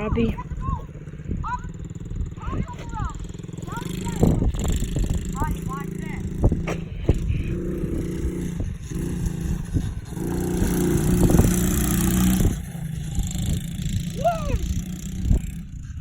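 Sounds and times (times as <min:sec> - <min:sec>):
dirt bike engine passing: 0:00.0 - 0:16.0.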